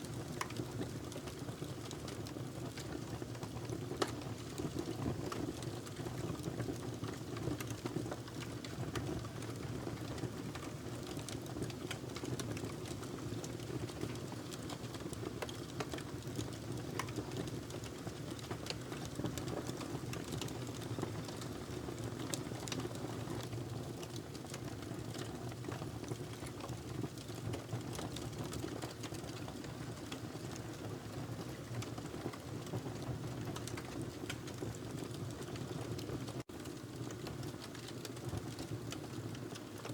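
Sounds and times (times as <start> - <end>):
fire crackling and popping: 0.1 - 39.9.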